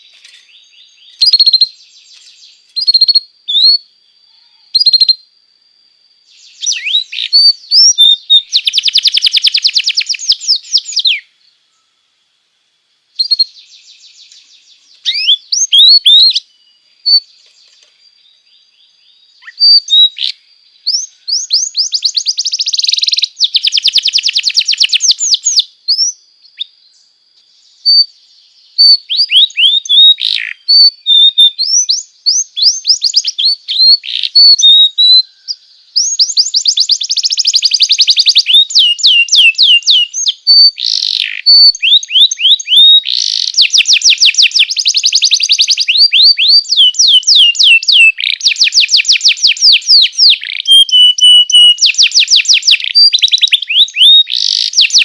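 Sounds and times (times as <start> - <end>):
canary singing trills: 0.0 - 12.0, 13.2 - 55.0.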